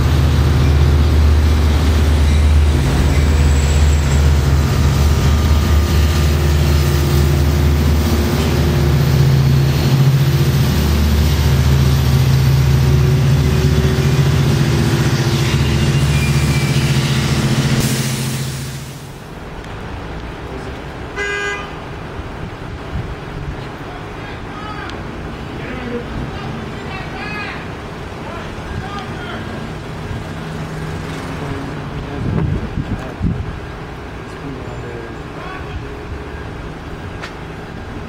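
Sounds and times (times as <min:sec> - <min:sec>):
diesel locomotive engine drone: 0:00.0 - 0:38.0.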